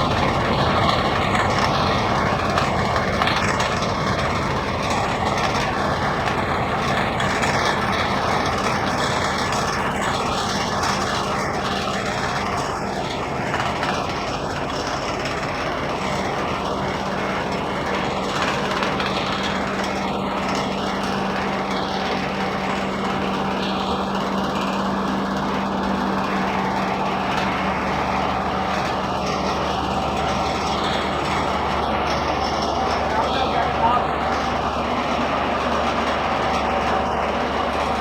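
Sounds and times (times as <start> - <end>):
constant hum: 0.0 - 38.0
machinery running: 0.0 - 38.0.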